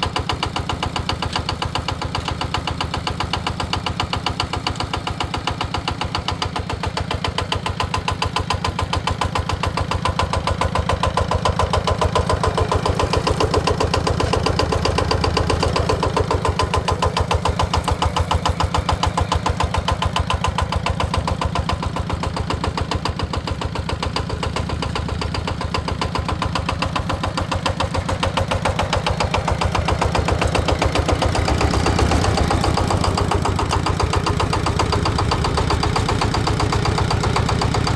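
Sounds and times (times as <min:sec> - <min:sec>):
engine idling with knocking: 0:00.0 - 0:37.9.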